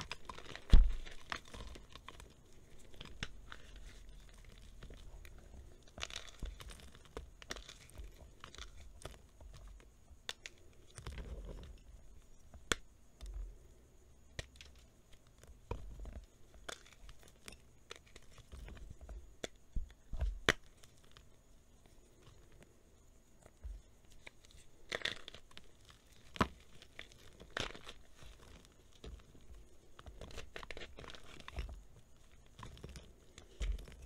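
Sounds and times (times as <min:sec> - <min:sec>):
chalk blocks snapping and crunching: 0:00.0 - 0:11.8, 0:12.4 - 0:13.4, 0:14.3 - 0:21.3, 0:23.4 - 0:34.0.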